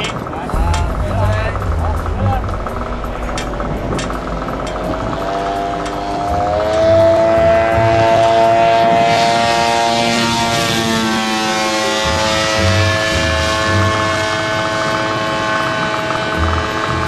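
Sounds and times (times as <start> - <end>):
propeller engine high drone: 0.0 - 17.0.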